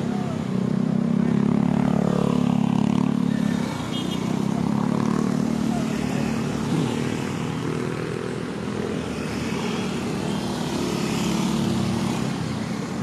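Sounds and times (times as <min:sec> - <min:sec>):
tyre and traffic noise: 0:00.0 - 0:13.0
vehicles passing: 0:00.0 - 0:13.0.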